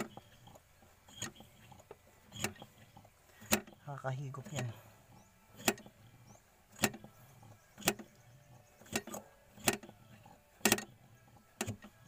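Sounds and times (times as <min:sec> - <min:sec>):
hand primer pump clicking: 0:00.0 - 0:08.2, 0:08.8 - 0:12.0.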